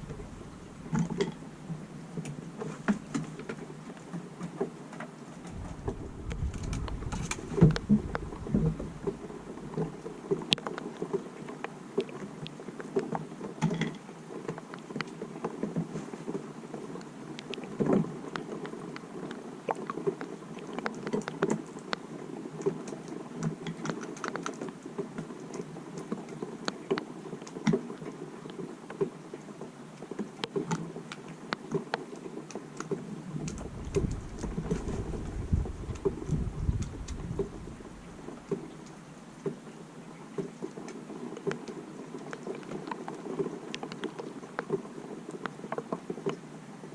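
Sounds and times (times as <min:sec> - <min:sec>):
rain pattering: 0:00.0 - 0:46.9
steady low hiss: 0:00.0 - 0:46.9.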